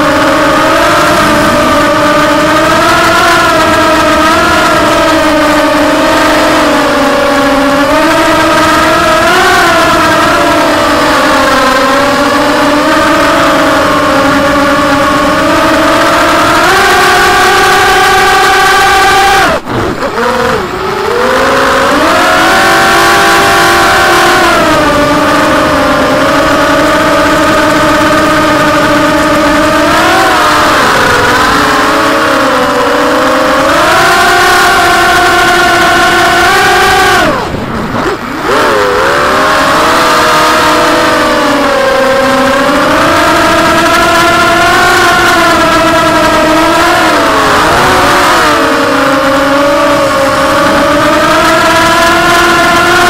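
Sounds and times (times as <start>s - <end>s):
quadcopter motors whining: 0.0s - 53.0s.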